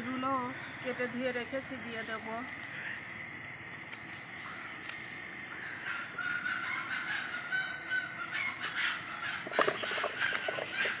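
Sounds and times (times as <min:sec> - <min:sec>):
harsh bird calls: 0:00.0 - 0:11.0.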